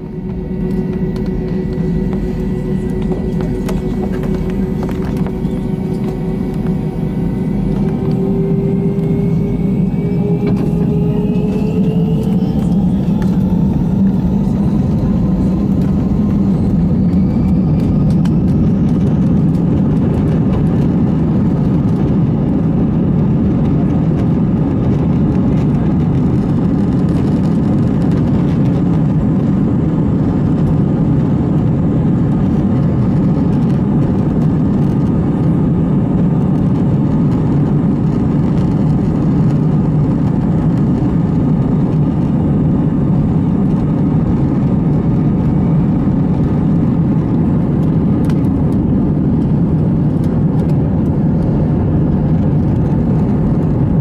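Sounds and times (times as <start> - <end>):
jet engines spooling up: 0.0 - 54.0.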